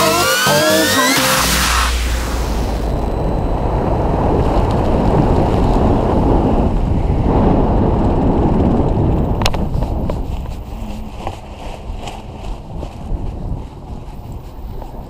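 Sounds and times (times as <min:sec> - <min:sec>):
wind buffeting microphone: 0:02.0 - 0:15.0.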